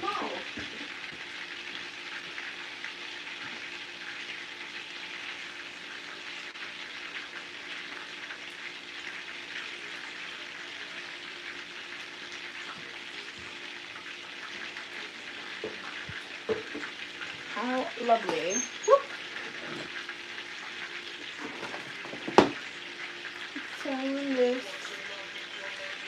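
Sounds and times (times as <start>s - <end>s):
chicken sizzling in a skillet: 0.0s - 26.0s.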